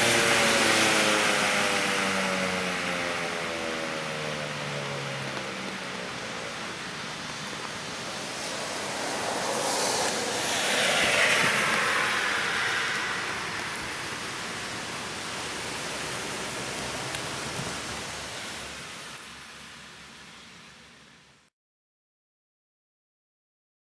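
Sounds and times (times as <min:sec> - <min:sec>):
vehicle passing on wet road: 0:00.0 - 0:21.2
steady hiss: 0:00.0 - 0:21.5.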